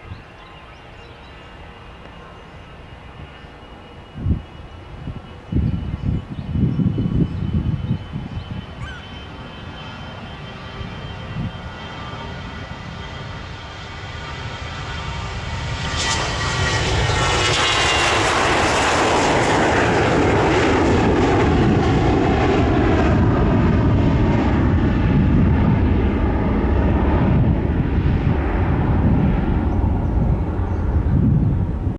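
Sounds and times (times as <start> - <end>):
airliner engines passing: 0.0 - 31.9.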